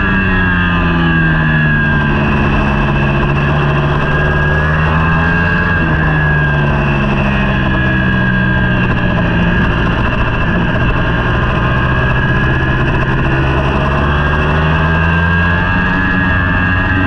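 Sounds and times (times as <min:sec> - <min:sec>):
superbike engine running hard: 0:00.0 - 0:17.0.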